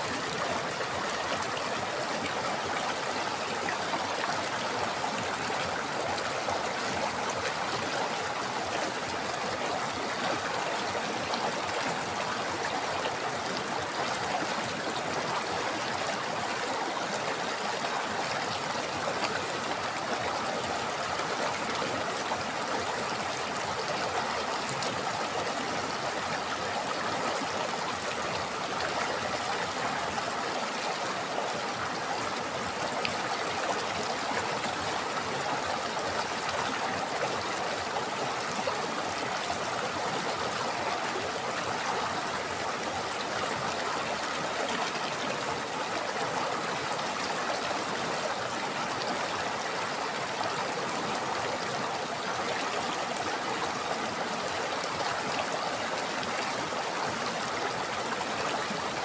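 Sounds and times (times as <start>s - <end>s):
stream flowing and babbling: 0.0s - 59.0s.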